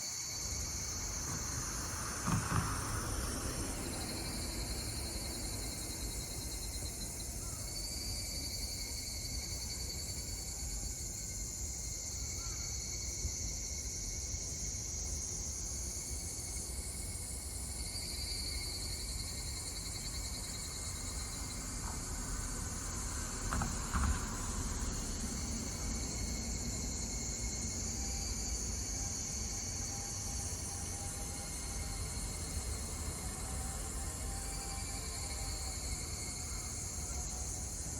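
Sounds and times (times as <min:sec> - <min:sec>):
cicadas trilling: 0:00.0 - 0:37.9
high insect hum: 0:00.0 - 0:37.9.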